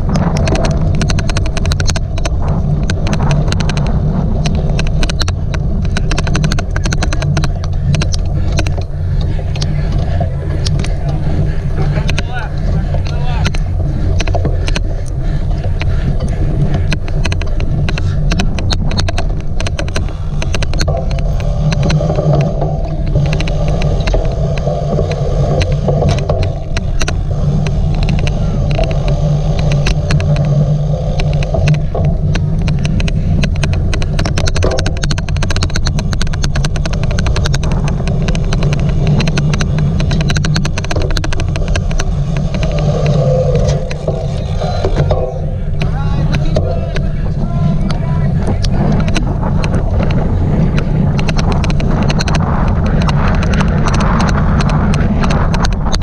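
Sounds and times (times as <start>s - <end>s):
bike clicks and rattles: 0.0s - 56.0s
wind and vibration rumble: 0.0s - 56.0s.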